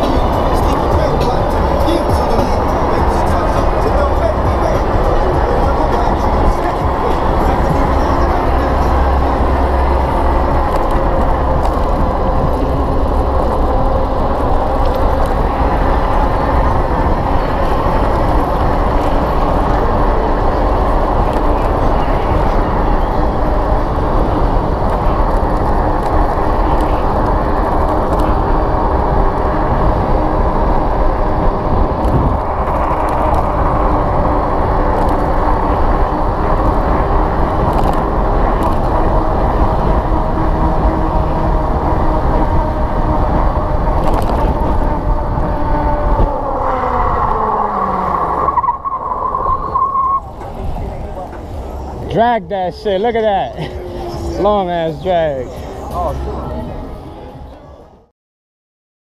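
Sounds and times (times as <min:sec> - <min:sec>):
wind rush on microphone: 0:00.0 - 0:52.4
electric motor and tyre whine: 0:00.0 - 0:58.1.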